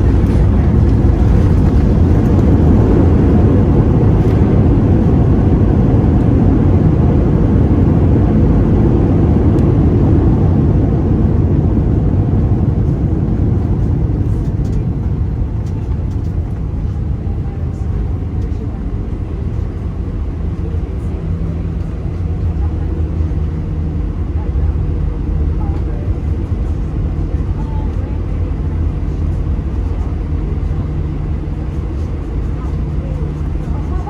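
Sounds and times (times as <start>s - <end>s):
aircraft cabin engine rumble: 0.0s - 34.0s.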